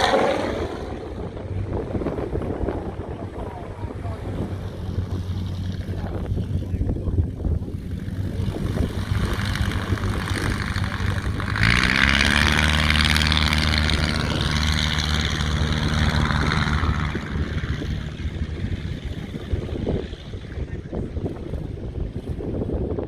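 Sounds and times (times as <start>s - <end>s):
propeller aircraft engine: 0.0s - 23.0s.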